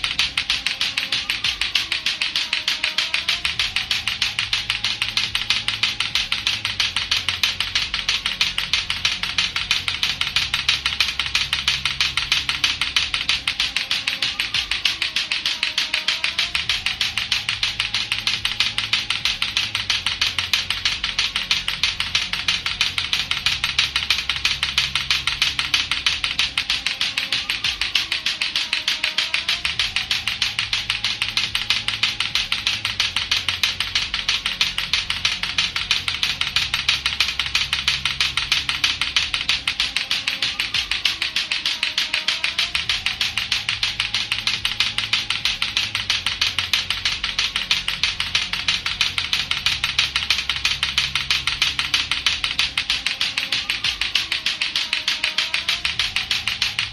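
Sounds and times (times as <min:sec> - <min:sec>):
looping music with bass: 0:00.0 - 0:56.9
plastic clacker balls clacking: 0:00.0 - 0:56.9.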